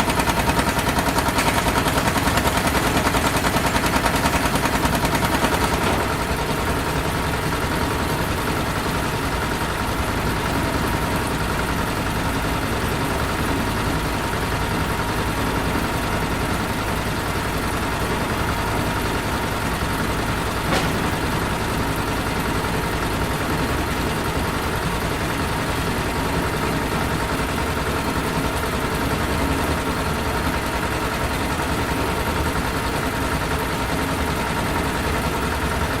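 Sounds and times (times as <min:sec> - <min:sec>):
factory engine running: 0:00.0 - 0:36.0.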